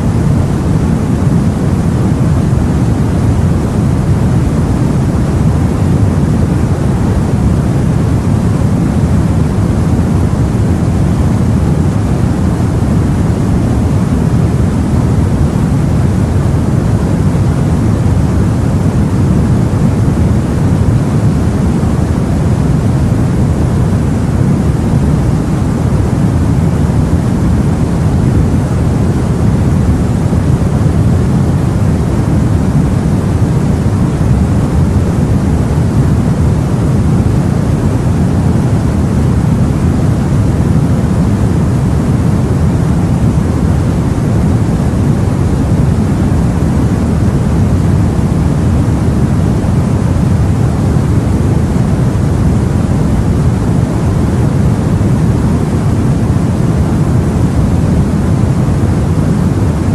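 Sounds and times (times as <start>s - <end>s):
low rumbling rush of sea: 0.0s - 59.9s.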